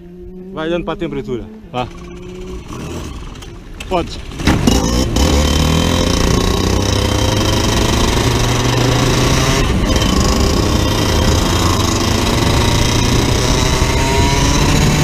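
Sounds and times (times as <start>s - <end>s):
kart engine running: 1.6s - 15.0s.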